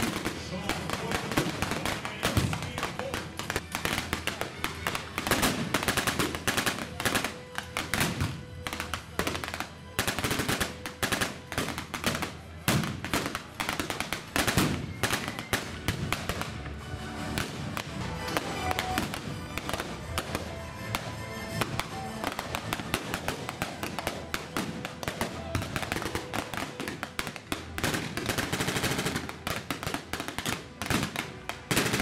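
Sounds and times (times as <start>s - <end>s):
background music: 0.0s - 32.0s.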